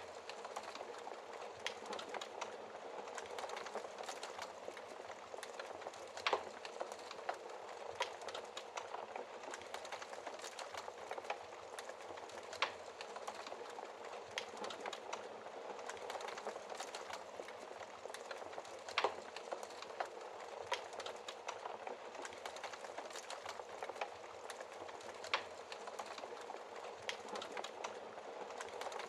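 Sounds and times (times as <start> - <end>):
fireplace fire crackling: 0.0 - 29.0.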